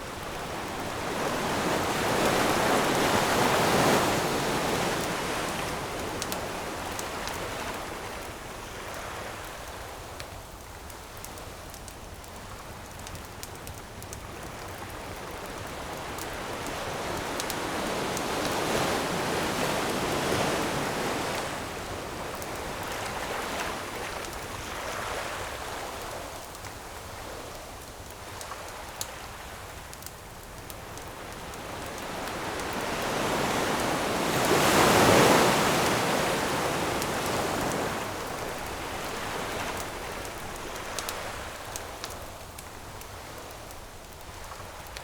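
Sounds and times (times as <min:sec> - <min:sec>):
ocean waves on shore: 0:00.0 - 0:10.3, 0:14.2 - 0:27.5, 0:30.7 - 0:45.0
campfire crackling: 0:00.0 - 0:45.0.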